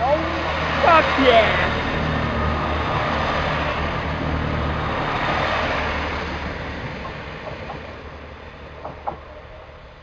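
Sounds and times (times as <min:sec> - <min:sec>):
diesel train engines droning: 0:00.0 - 0:10.0
train running noise: 0:00.0 - 0:10.0.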